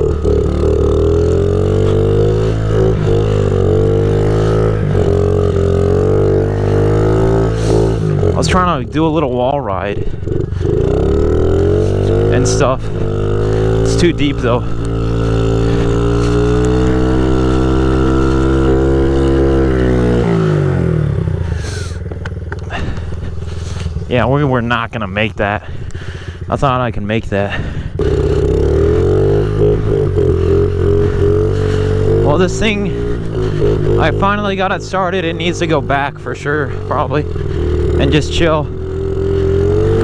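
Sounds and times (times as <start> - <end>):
pit bike engine running: 0.0 - 40.0.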